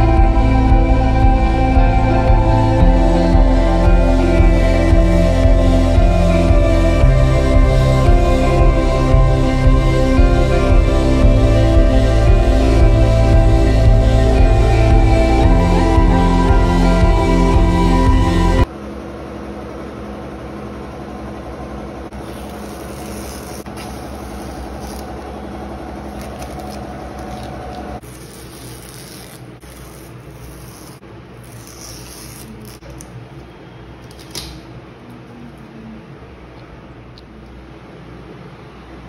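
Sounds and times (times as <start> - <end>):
low machine-like room hum: 0.0 - 39.0.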